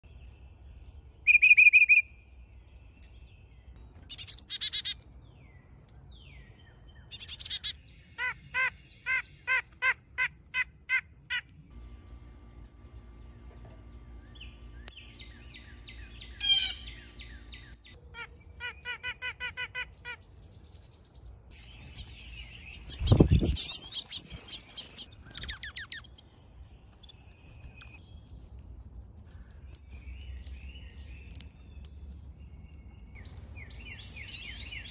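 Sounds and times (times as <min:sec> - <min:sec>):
songbirds singing and calling: 0:00.0 - 0:11.5, 0:12.6 - 0:34.9.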